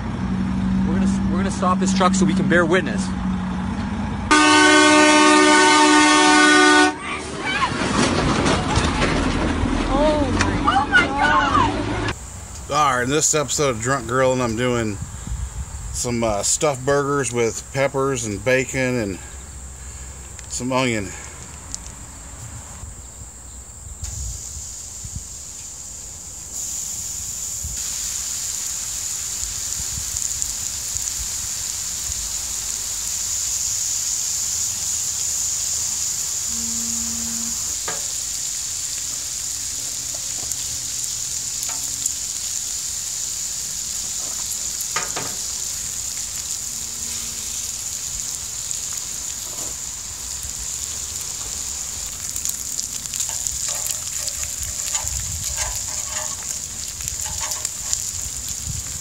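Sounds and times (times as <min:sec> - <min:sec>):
bacon sizzling on a griddle: 0:04.3 - 0:07.7, 0:10.0 - 0:22.6, 0:23.5 - 0:59.0.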